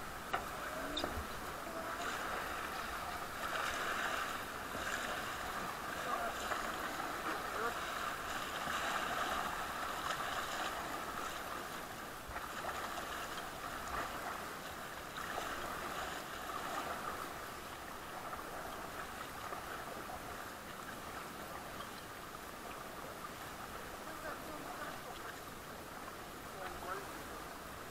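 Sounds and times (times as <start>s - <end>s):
paddles splashing in water: 0.0s - 27.4s
river water rushing: 0.0s - 27.9s.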